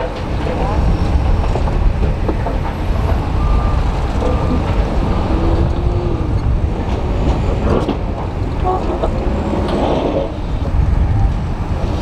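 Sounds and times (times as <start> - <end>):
heavy diesel engines rumbling: 0.0 - 12.0.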